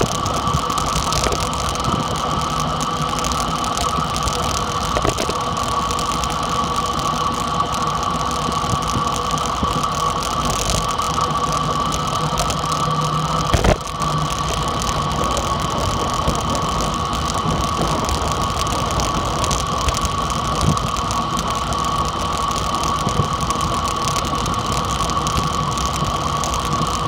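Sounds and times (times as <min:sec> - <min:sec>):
constant whine: 0:00.0 - 0:27.0.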